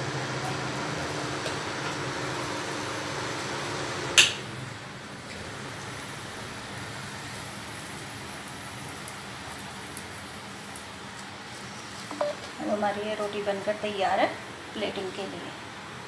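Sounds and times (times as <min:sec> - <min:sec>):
flatbread frying hiss: 0:00.0 - 0:15.4.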